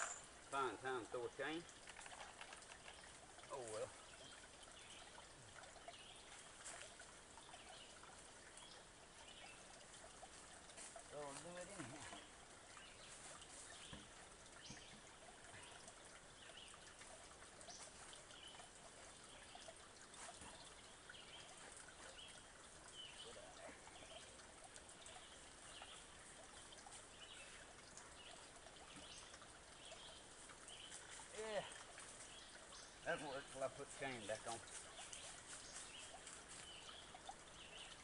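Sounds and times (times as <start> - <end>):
low woodland hiss: 0.0 - 38.0.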